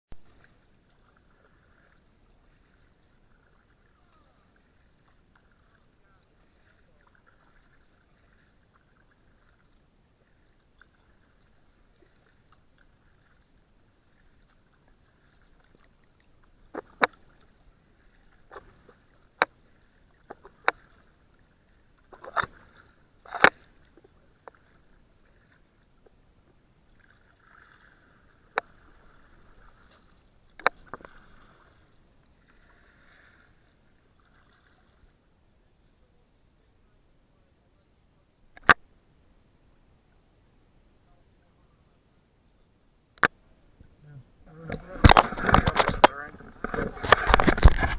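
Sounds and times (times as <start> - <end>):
paddle water wash: 0.1 - 47.9
paddle clicks and splashes: 0.2 - 35.1, 38.5 - 38.9, 43.2 - 43.4, 44.5 - 47.9.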